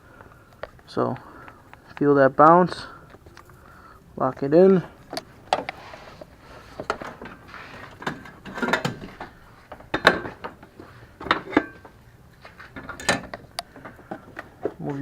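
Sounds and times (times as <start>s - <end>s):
rustling of parts: 0.2s - 15.0s.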